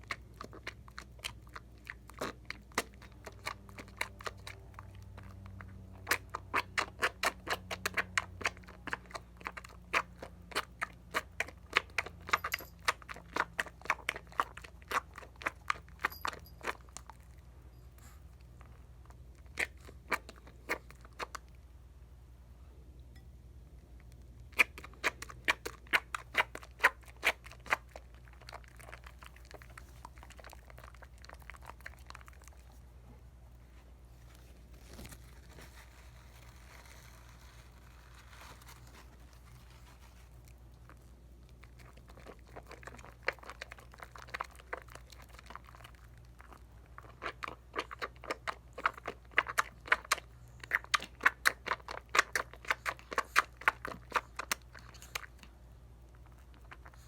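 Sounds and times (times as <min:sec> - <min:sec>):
wet soap lather squishing: 0:00.0 - 0:17.4, 0:18.4 - 0:21.8, 0:24.1 - 0:33.0, 0:34.3 - 0:57.0.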